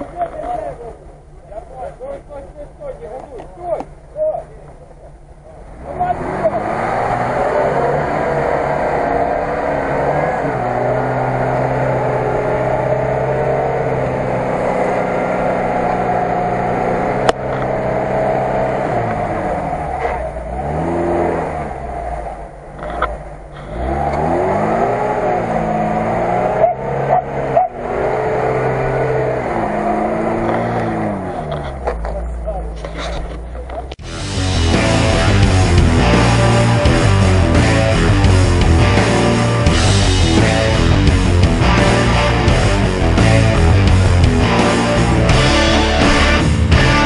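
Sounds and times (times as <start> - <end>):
car engine straining and revving: 0.0 - 47.0.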